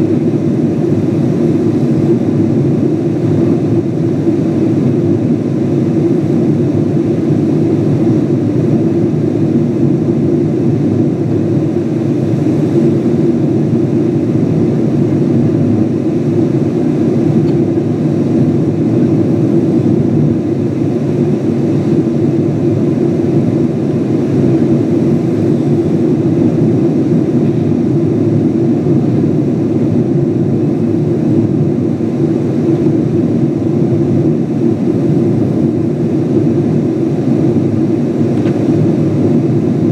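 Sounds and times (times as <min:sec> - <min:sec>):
airliner cabin engine roar: 0:00.0 - 0:39.9.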